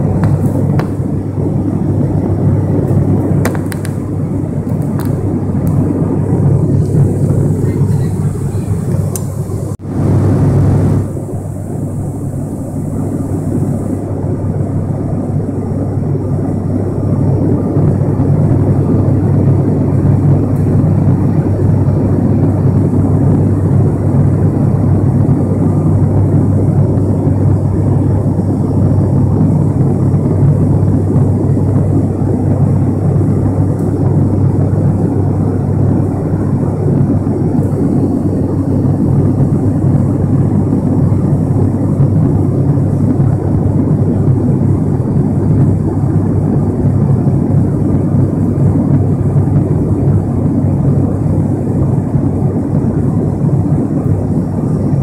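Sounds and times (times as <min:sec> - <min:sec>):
airplane cabin hum and rushing: 0:00.0 - 0:55.0.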